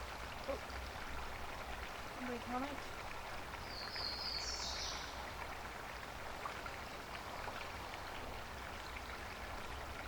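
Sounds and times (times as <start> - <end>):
creek water rushing: 0.0 - 10.0
water trickling ticks: 0.0 - 10.0.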